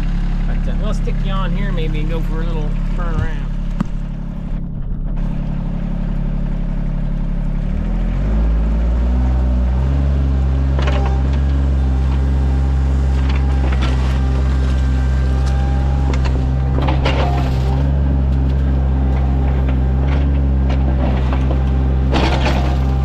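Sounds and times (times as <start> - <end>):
excavator diesel engine revving: 0.0 - 23.0.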